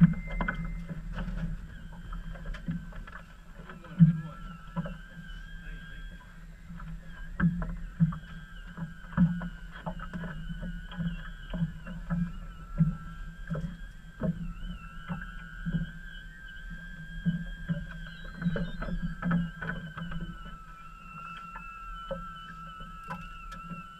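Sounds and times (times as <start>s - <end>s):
faint high whistle: 0.0s - 23.9s.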